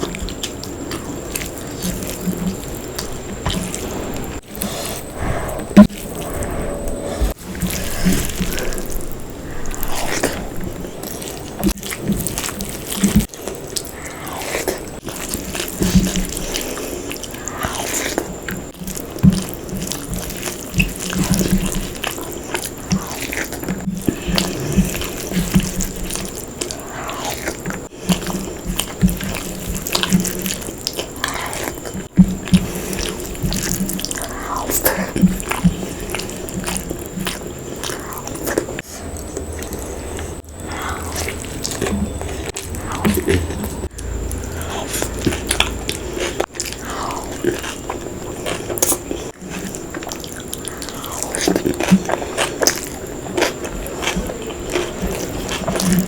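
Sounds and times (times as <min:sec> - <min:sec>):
wet chewing: 0:00.0 - 0:06.5, 0:07.2 - 0:56.0.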